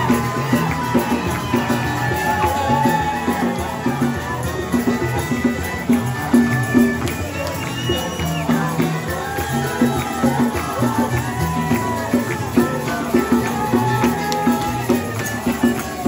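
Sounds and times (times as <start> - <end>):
percussion: 0.0 - 16.0.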